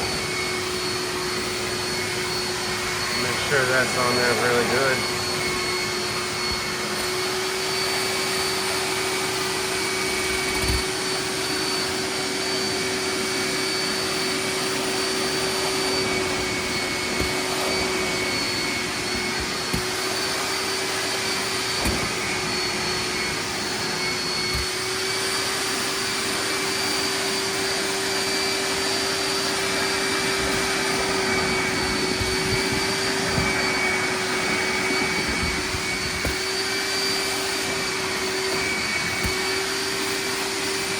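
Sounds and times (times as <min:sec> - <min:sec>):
vacuum motor whining: 0:00.0 - 0:40.9.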